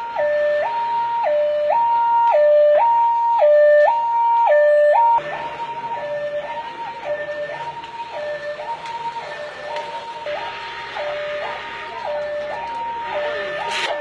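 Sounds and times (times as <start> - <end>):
fire truck two-tone siren: 0.0 - 14.0.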